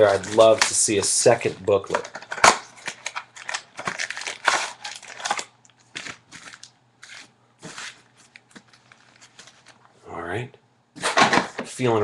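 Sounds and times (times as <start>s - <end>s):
packaging crinkling and tearing: 0.0s - 9.9s.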